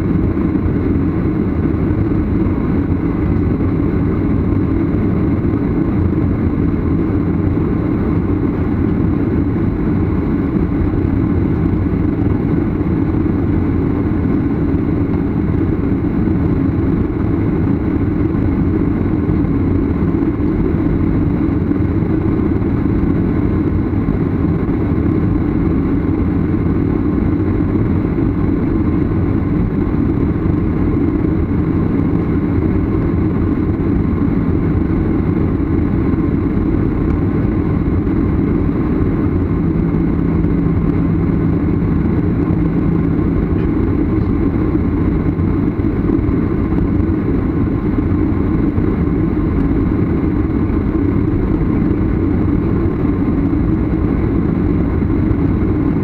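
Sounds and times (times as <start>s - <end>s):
jet engine rumble in cabin: 0.0s - 56.0s.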